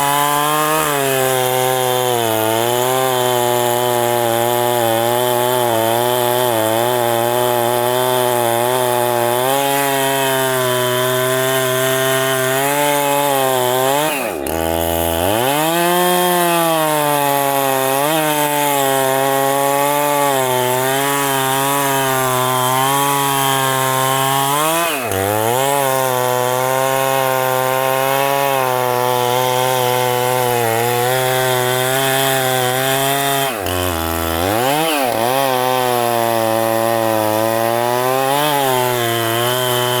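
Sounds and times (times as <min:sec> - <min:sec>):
chainsaw cutting tree trunk: 0:00.0 - 0:40.0.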